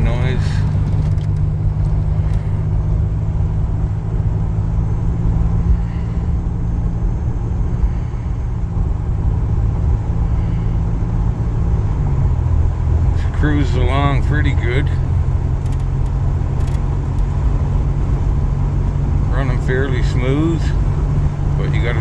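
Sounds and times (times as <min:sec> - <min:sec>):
car cabin engine and road drone: 0:00.0 - 0:22.0.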